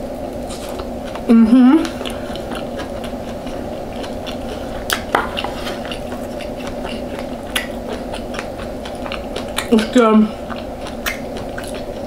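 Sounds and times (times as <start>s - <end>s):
soft eating clicks: 0.2s - 12.0s.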